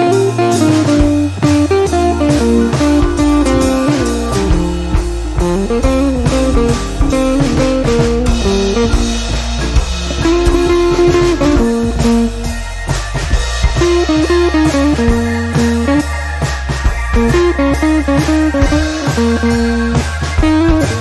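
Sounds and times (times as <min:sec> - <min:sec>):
blues-rock music with guitar: 0:00.0 - 0:21.0
steady drum beat: 0:00.0 - 0:21.0.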